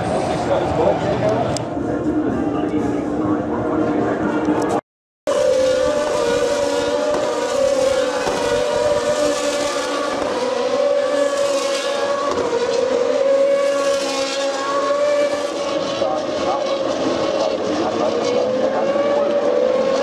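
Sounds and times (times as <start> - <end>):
race cars passing at high revs: 0.0 - 20.0.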